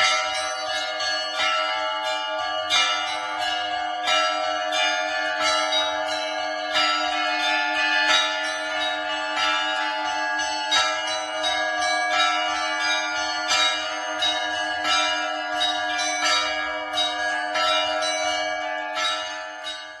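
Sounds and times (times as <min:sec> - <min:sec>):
heavy church bell strokes: 0:00.0 - 0:20.0
small bells pealing: 0:00.0 - 0:20.0.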